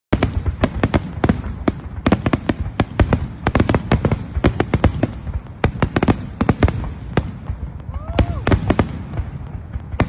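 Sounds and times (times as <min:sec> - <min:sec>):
fireworks banging: 0:00.1 - 0:10.0.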